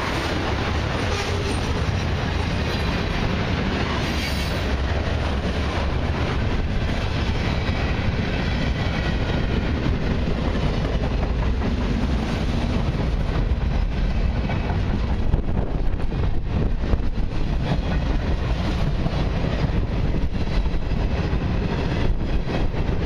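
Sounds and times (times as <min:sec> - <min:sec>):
freight train wheels on rail: 0:00.0 - 0:23.0.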